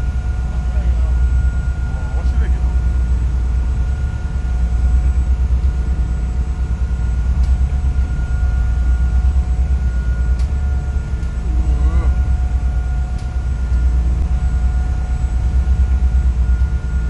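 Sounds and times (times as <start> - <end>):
boat engine drone: 0.0 - 17.0
faint steady whine: 0.0 - 17.0
wind: 0.0 - 17.0.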